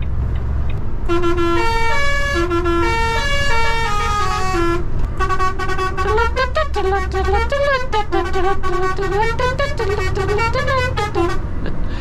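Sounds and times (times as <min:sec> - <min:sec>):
truck engine rumbling: 0:00.0 - 0:12.0
musical truck air horn: 0:01.1 - 0:11.5.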